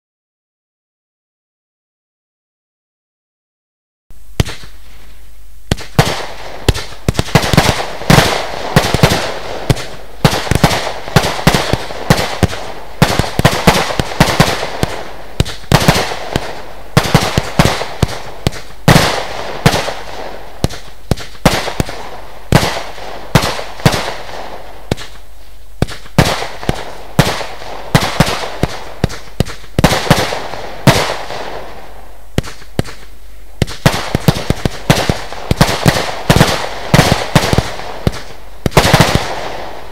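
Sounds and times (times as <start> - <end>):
fireworks shots and bangs: 4.4 - 5.1, 5.7 - 39.9.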